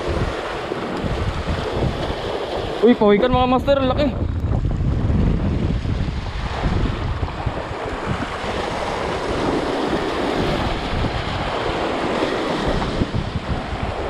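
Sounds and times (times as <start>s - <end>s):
sea waves breaking on rocks: 0.0s - 14.0s
wind buffeting microphone: 0.0s - 14.0s.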